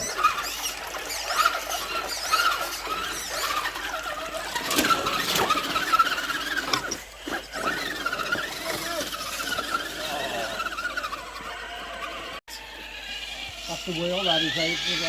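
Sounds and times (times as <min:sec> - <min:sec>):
rc car motors whining: 0:00.0 - 0:15.0.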